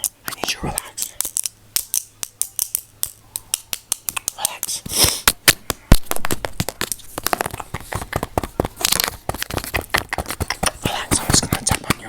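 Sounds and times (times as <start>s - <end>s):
rapid clicks and crackles: 0.0s - 12.0s.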